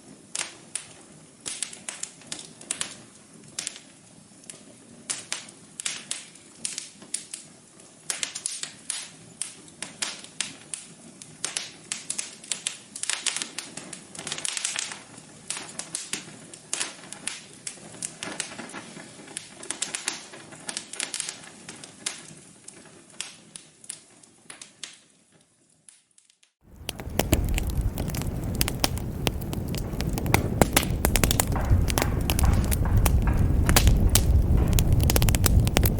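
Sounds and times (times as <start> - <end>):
wood fire crackling: 0.0 - 25.3, 26.6 - 35.9.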